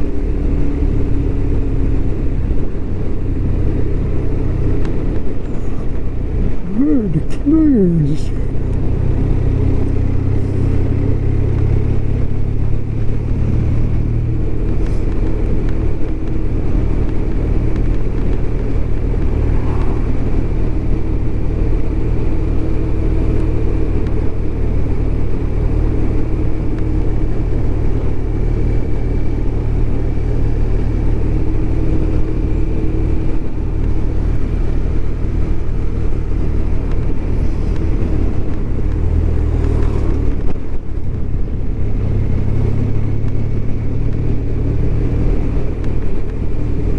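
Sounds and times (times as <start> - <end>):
motorcycle engine cruising: 8.3 - 46.9.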